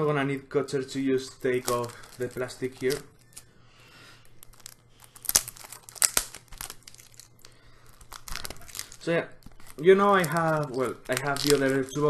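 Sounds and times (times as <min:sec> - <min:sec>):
plastic wrap crinkling and tearing: 0:01.2 - 0:12.0.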